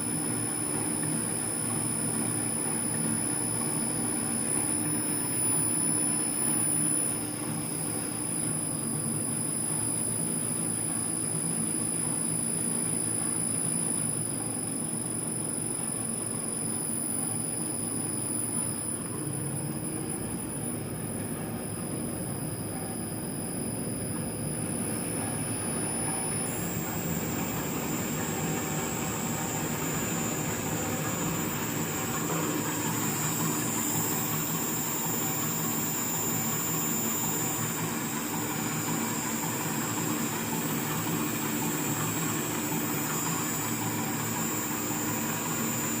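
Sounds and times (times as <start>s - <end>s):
gearbox drone with whine: 0.0s - 46.0s.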